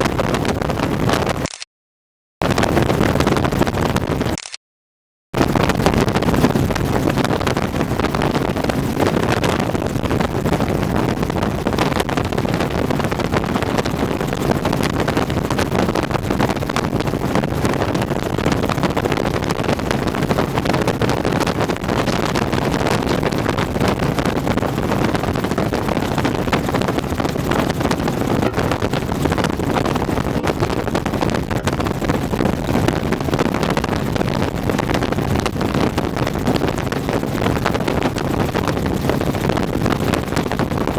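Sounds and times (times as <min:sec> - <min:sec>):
wind on microphone: 0:00.0 - 0:01.5, 0:02.4 - 0:04.3, 0:05.4 - 0:40.9.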